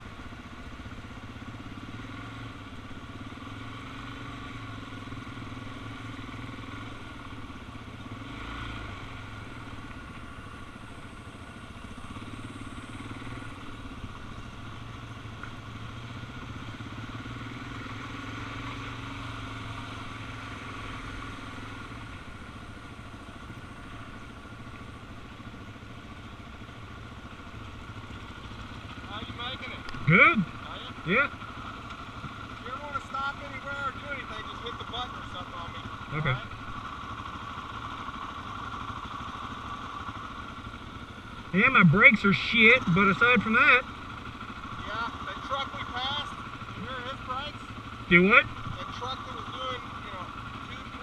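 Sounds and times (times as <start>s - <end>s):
motorcycle engine running: 0.0s - 51.0s
wind and road noise: 0.0s - 51.0s.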